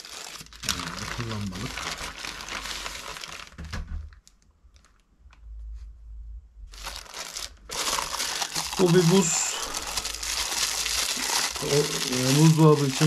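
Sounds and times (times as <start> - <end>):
plastic packaging crinkling: 0.0 - 5.0, 6.7 - 13.0.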